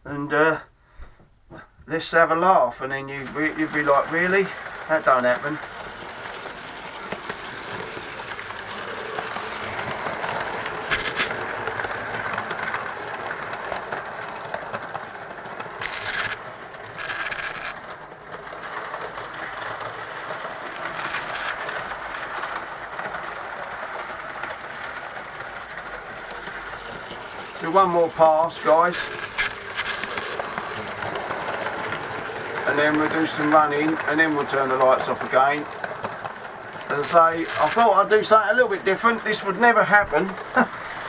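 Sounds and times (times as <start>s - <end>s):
model trains running on track: 1.9s - 41.0s.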